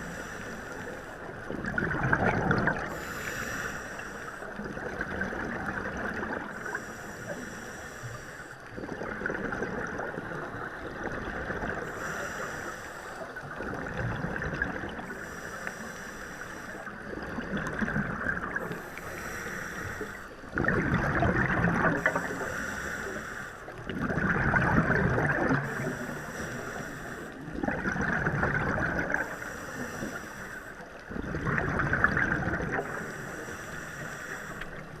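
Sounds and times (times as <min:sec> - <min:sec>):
water splashing against a boat: 0:00.0 - 0:35.0.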